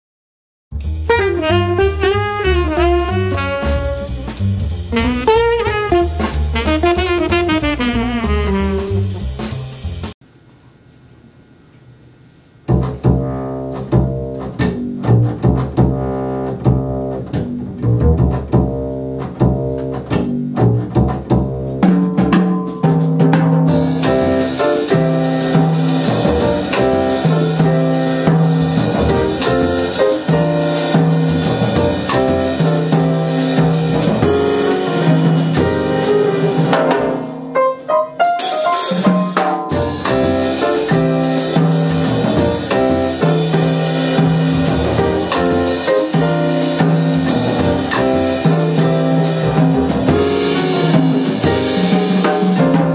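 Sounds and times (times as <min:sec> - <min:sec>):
drum kit with cymbals: 0:00.7 - 0:10.2, 0:12.7 - 0:52.9
upright double bass: 0:00.7 - 0:10.2, 0:12.7 - 0:37.2, 0:39.7 - 0:52.9
grand piano: 0:00.8 - 0:10.2, 0:12.8 - 0:52.9.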